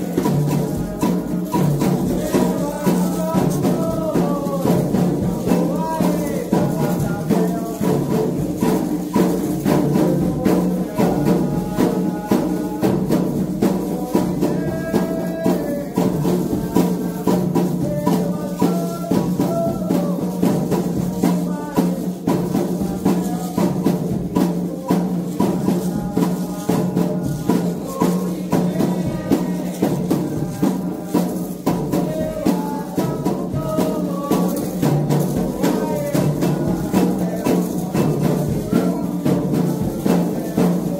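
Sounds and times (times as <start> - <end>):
hand drums: 0.0 - 40.9
voices singing: 0.0 - 40.9.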